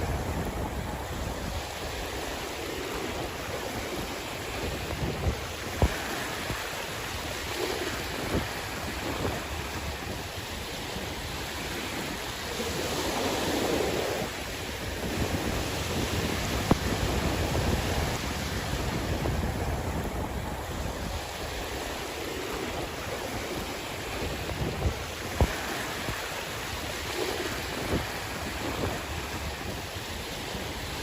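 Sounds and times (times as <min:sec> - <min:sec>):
waves washing onto shore: 0:00.0 - 0:31.0
wind buffeting microphone: 0:00.0 - 0:31.0.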